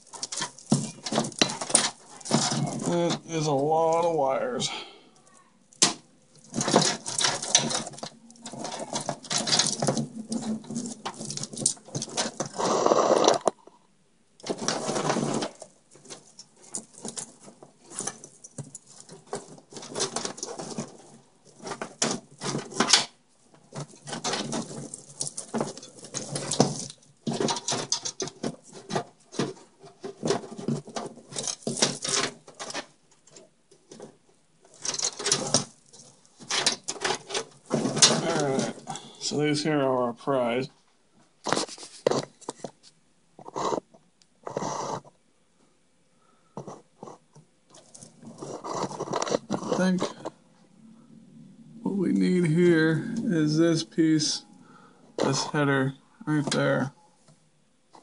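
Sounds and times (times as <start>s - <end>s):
plastic and cables rustling: 0.0s - 4.6s, 5.2s - 13.8s, 14.4s - 45.2s, 46.5s - 50.6s, 51.9s - 58.0s.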